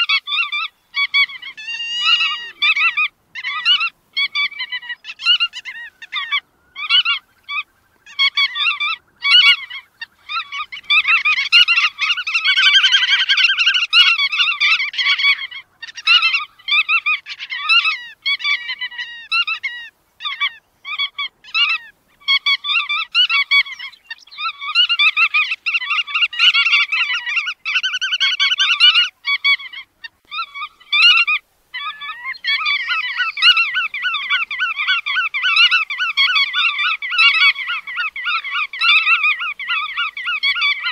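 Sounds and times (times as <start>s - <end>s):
godwits calling: 0.0s - 40.9s.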